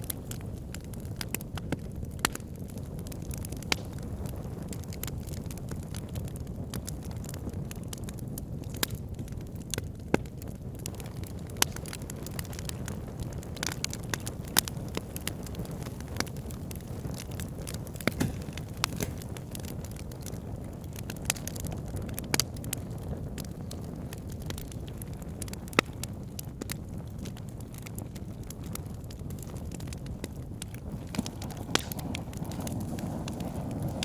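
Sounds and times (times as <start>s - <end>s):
fire low rumble: 0.0s - 34.0s
wood fire crackling and popping: 0.0s - 34.0s.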